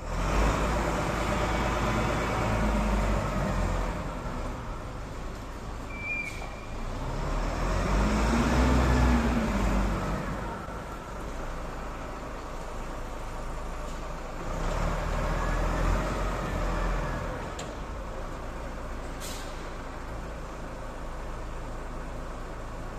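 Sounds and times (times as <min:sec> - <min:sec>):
heavy vehicle engine rumbling: 0:00.0 - 0:22.9.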